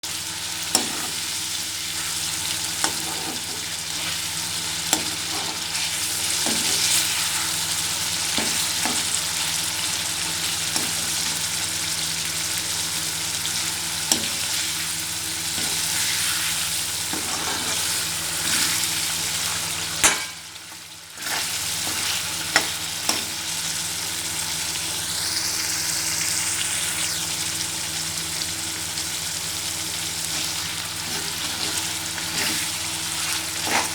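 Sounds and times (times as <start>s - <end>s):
chicken frying in hot oil: 0.0s - 33.9s.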